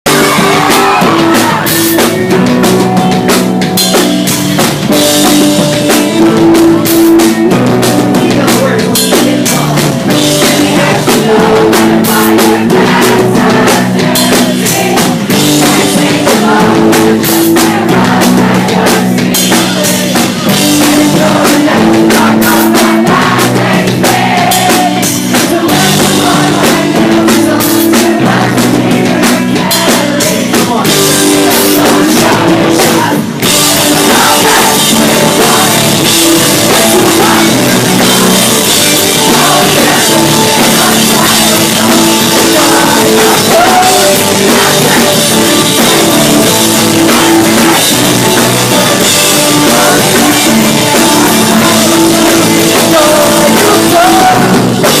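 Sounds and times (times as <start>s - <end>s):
drum kit: 0.0s - 55.0s
live rock band playing: 0.0s - 55.0s.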